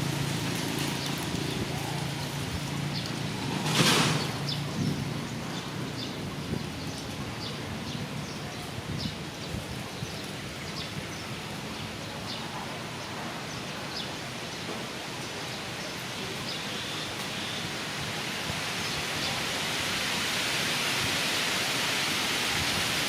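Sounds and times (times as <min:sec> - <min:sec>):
wind rustling through trees: 0:00.0 - 0:23.0.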